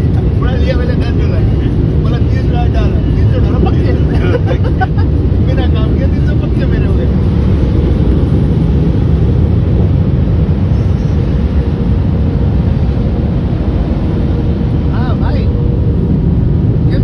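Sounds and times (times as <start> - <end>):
car wash brushes rumbling and swishing: 0.0 - 17.0.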